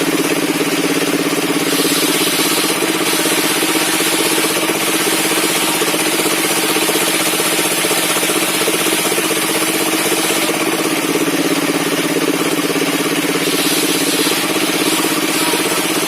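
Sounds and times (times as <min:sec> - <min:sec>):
sawmill engine running: 0:00.0 - 0:16.0.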